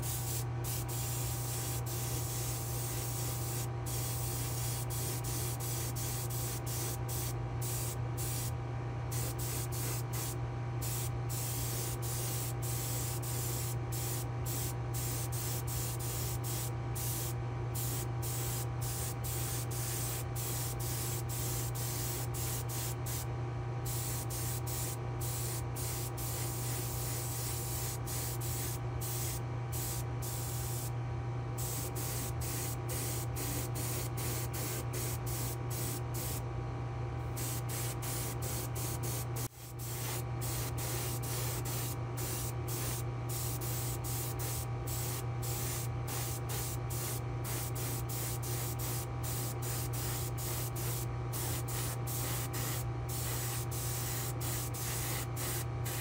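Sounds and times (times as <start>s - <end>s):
airbrush hissing: 0.0s - 8.5s, 9.1s - 23.2s, 23.9s - 30.9s, 31.6s - 36.4s, 37.4s - 56.0s
steady low hum: 0.0s - 56.0s.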